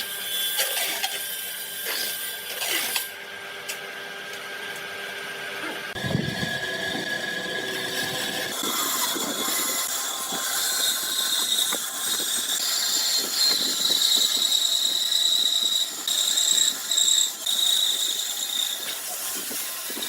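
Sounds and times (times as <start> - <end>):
power tool high-pitched whine: 0.0 - 20.0.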